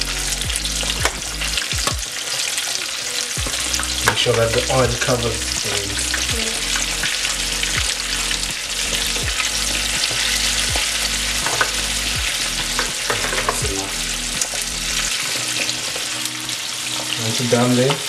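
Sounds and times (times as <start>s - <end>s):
hot oil bubbling and sizzling: 0.0s - 18.0s.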